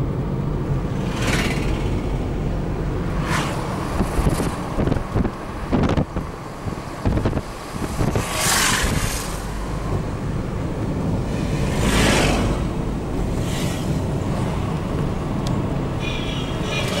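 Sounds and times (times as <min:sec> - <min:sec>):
road and engine rumble in car: 0:00.0 - 0:17.0
rushing noise: 0:00.0 - 0:17.0.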